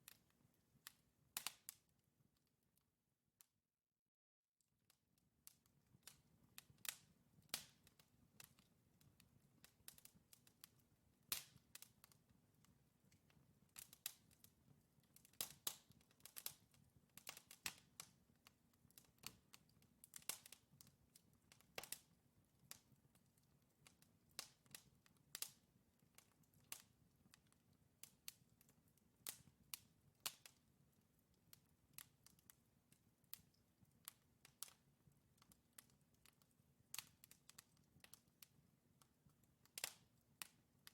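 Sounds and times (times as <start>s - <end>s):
wood fire crackling: 0.0s - 1.9s, 5.4s - 40.9s.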